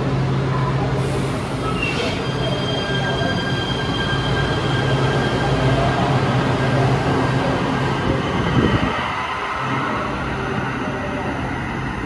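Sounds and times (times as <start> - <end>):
high whine of train: 0.0 - 12.0
train low hum: 0.0 - 12.0.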